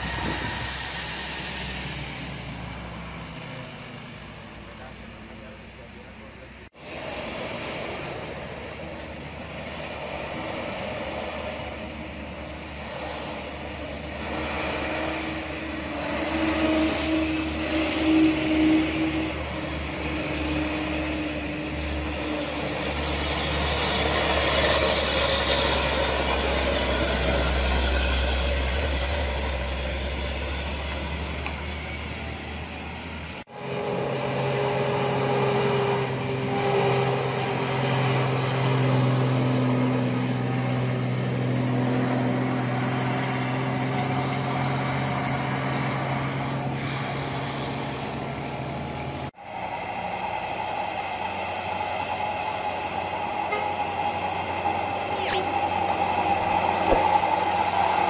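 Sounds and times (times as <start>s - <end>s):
cement mixer truck engine: 0.0s - 58.0s
diesel trucks labouring uphill: 0.0s - 58.0s.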